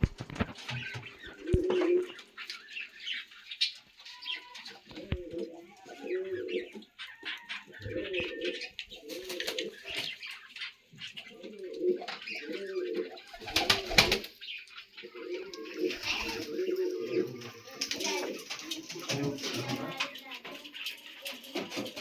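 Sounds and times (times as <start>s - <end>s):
pigeons scuffling: 0.0s - 14.4s, 15.1s - 22.0s
pigeons cooing: 0.0s - 22.0s.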